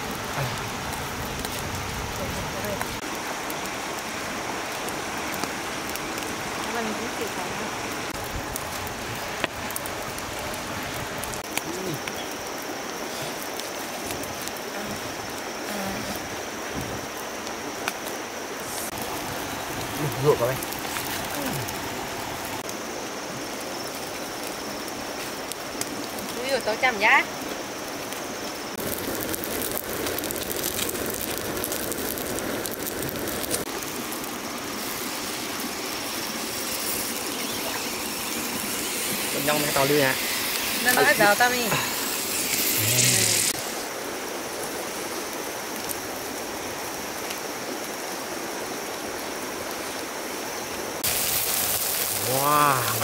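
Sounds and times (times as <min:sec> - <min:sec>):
campfire crackling: 0:00.0 - 0:53.0
stream rushing: 0:00.0 - 0:53.0.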